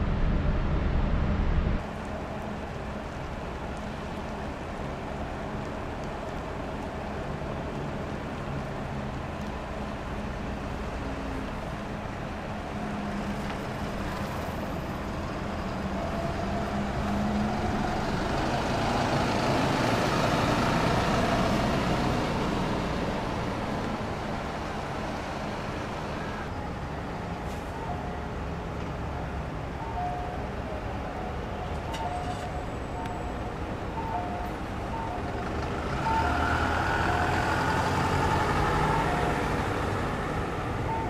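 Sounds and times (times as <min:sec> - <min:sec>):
buses running and moving off: 0:00.0 - 0:41.0
street traffic: 0:00.0 - 0:41.0.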